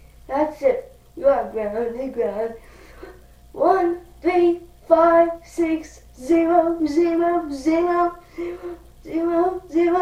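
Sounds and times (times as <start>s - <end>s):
child singing: 0.3s - 2.6s, 3.6s - 10.0s.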